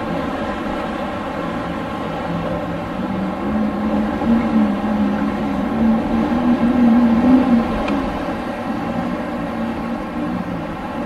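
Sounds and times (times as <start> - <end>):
storm wind blowing: 0.0 - 11.0
low wavering tone: 1.4 - 11.0.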